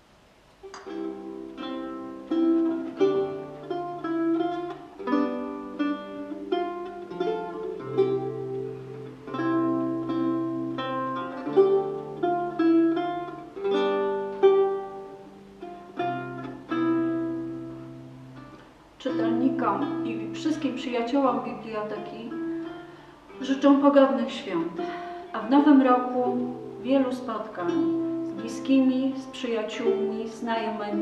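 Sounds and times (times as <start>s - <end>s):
solo lute playing: 0.6s - 31.0s.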